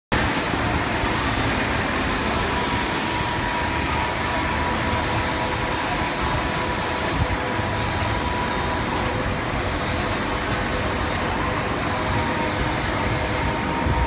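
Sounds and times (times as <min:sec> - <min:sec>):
faint steady whine: 0:00.1 - 0:14.0
machinery rushing hum: 0:00.1 - 0:14.0.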